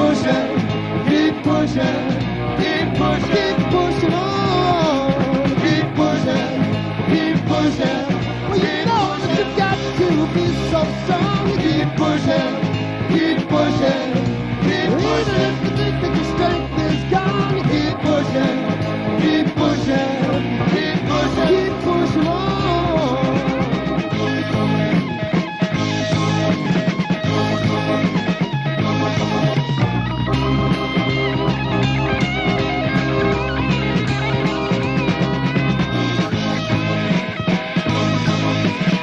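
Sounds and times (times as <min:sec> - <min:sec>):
rock band music: 0:00.0 - 0:39.0.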